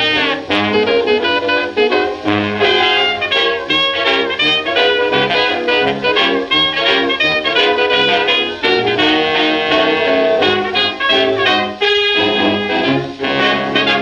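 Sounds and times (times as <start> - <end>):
jazz band on old record: 0.0 - 14.0.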